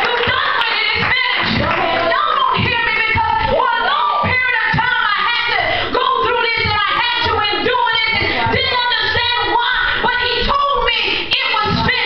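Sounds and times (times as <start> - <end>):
woman singing into microphone: 0.0 - 12.0.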